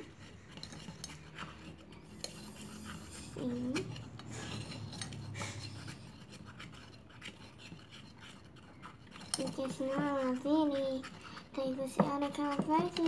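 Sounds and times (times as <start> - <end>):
spoon stirring in metal pot: 0.0 - 13.0.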